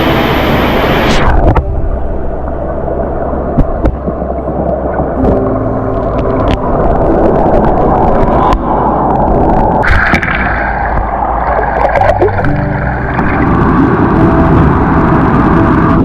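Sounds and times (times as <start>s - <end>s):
waterfall rushing: 0.0s - 1.5s, 2.1s - 16.0s.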